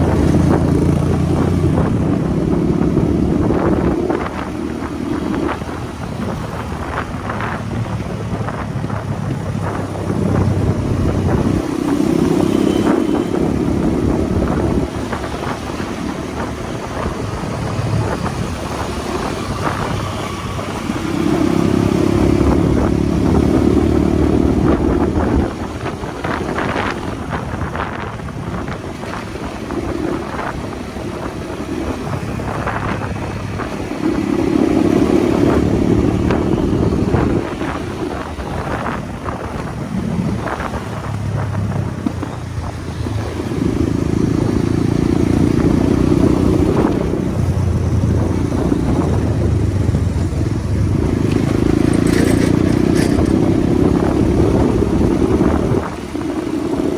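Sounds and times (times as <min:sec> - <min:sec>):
motorcycle engine running: 0:00.0 - 0:56.9
wind noise: 0:00.0 - 0:56.9.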